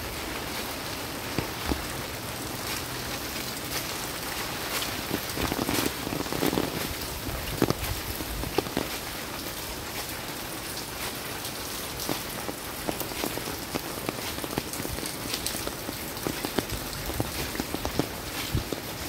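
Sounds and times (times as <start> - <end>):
rain falling: 0.0 - 19.0
raindrops hitting hard surface: 0.0 - 19.0.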